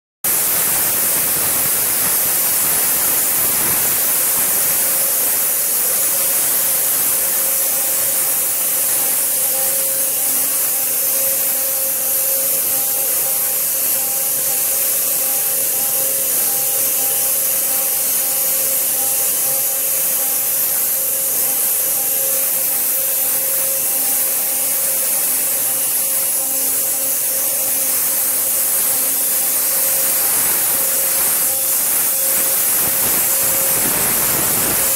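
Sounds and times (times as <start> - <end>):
waterjet cutter hissing: 0.3 - 34.9.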